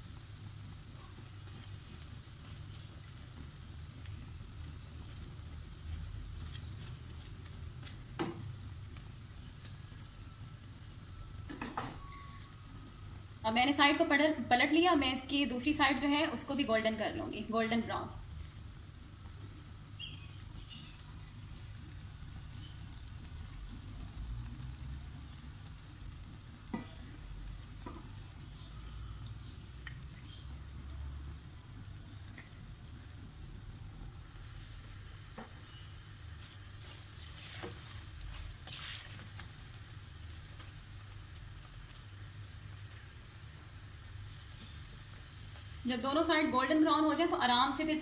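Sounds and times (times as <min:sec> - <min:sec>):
food sizzling in hot oil: 0:00.0 - 0:48.0.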